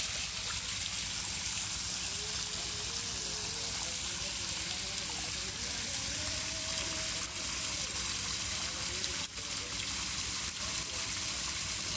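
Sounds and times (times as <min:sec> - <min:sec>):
water gushing and splashing: 0:00.0 - 0:11.9.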